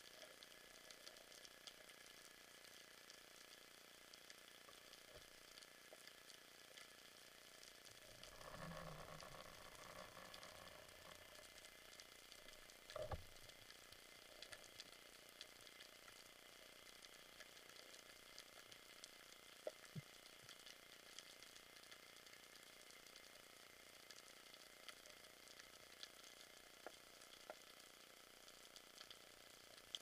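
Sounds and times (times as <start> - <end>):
underwater crackling and ticking: 0.0 - 30.0.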